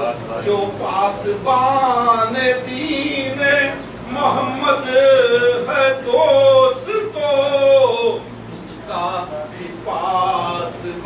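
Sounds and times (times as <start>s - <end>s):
man chanting into a microphone: 0.0s - 8.2s, 8.8s - 11.0s.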